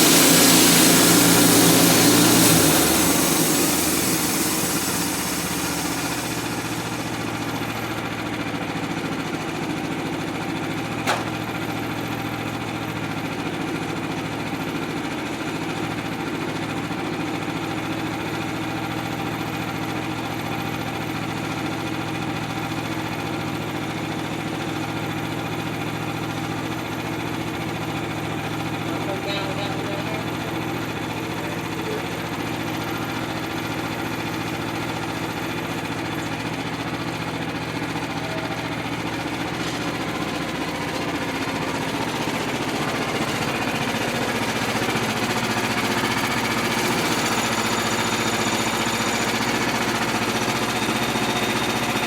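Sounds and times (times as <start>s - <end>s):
sawmill engine idling: 0.0s - 52.0s.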